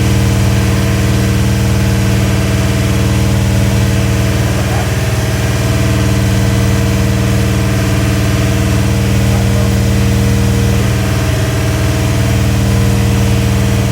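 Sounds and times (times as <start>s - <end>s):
engine running steadily: 0.0s - 13.9s.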